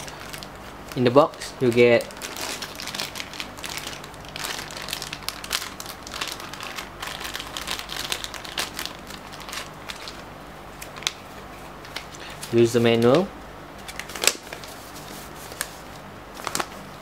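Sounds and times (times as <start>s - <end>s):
plastic bag crinkling: 0.0s - 13.1s, 13.8s - 16.8s.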